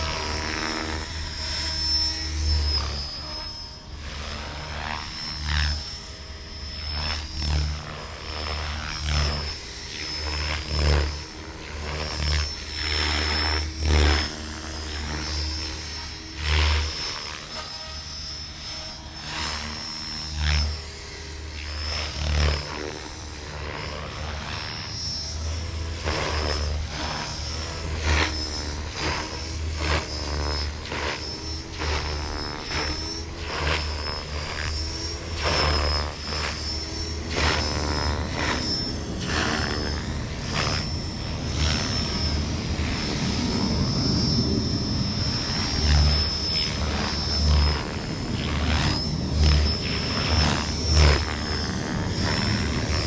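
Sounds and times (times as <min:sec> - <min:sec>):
electric helicopter motor whine: 0:00.0 - 0:53.0
rotor blades rushing: 0:00.0 - 0:53.0.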